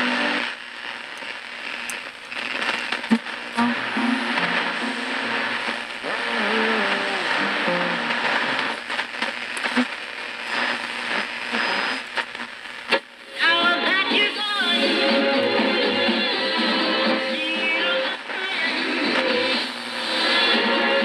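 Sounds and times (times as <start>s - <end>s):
music from radio speaker: 0.0s - 21.0s
radio static hiss: 0.0s - 21.0s.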